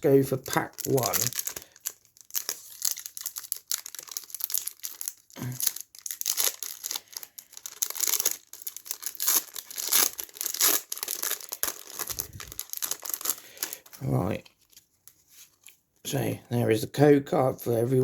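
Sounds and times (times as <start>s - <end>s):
foil wrapper tearing and crinkling: 0.0s - 14.8s.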